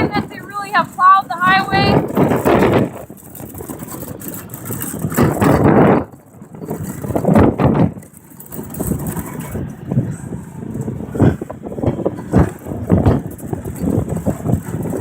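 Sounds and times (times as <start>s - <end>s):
riding lawn mower engines: 0.0s - 15.0s.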